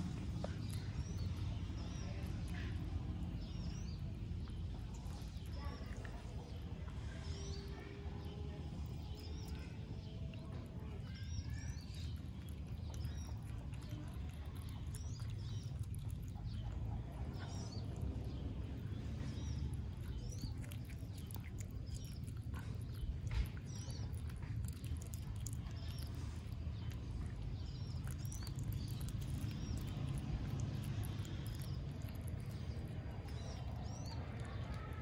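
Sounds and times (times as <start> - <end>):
otter chewing and crunching: 0.0 - 35.0
steady low rumble: 0.0 - 35.0.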